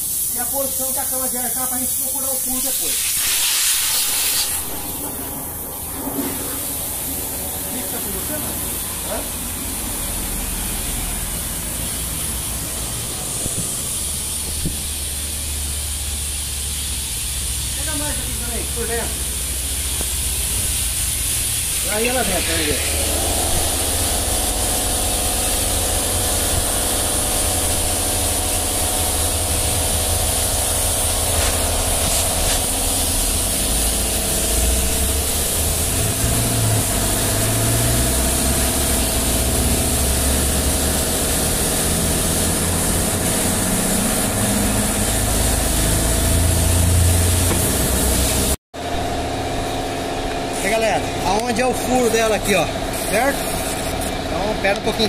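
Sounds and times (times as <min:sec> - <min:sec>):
compressed air hissing through hose: 0:00.0 - 0:48.6, 0:51.8 - 0:55.0
machine hum: 0:04.6 - 0:55.0.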